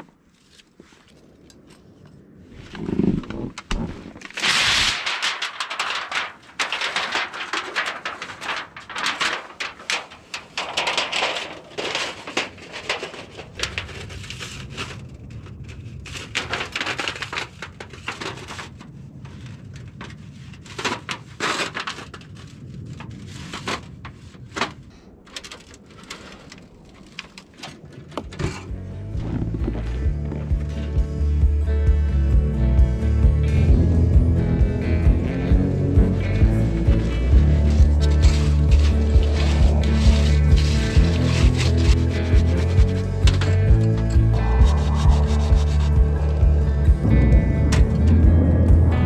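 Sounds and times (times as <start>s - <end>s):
thin metal sheet crinkling: 0.0s - 30.9s, 34.8s - 49.0s.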